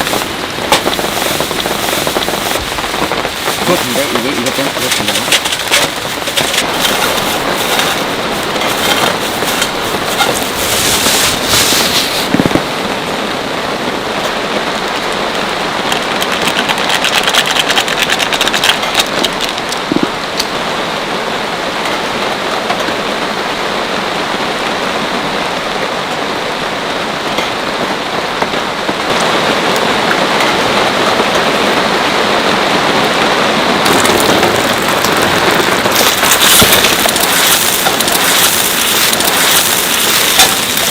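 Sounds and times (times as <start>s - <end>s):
heavy rain on a surface: 0.0s - 40.9s.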